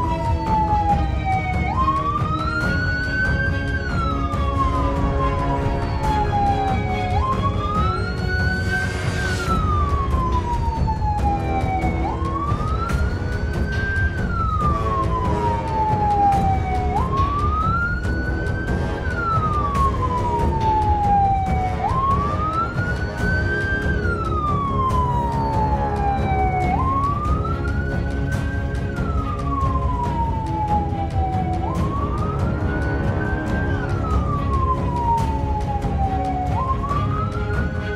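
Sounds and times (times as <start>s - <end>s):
background music: 0.0s - 37.9s
emergency siren wailing: 0.0s - 37.9s.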